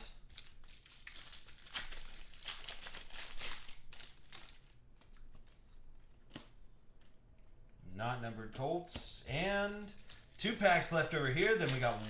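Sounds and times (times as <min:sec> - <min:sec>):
plastic wrapper crinkling: 0:00.0 - 0:07.2, 0:09.1 - 0:12.0
cards rustling: 0:00.2 - 0:07.2, 0:08.4 - 0:12.0.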